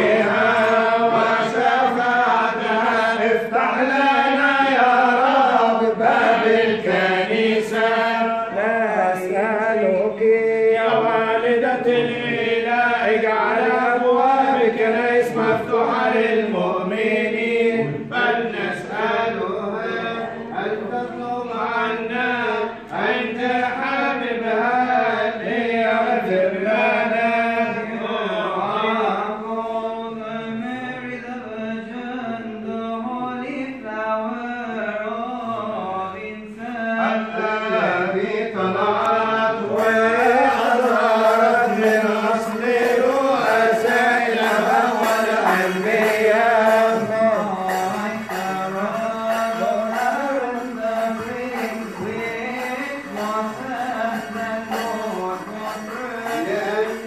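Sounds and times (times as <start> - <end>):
men chanting a hymn: 0.0 - 57.0.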